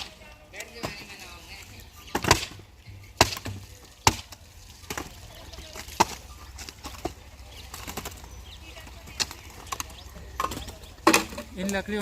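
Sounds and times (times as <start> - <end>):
axe chopping firewood: 0.0 - 1.3, 2.0 - 8.2, 9.1 - 11.8.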